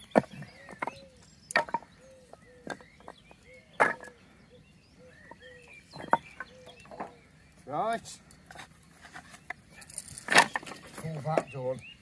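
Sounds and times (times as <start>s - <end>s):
wooden pieces clacking together: 0.0s - 4.2s, 5.2s - 7.2s, 7.9s - 11.8s.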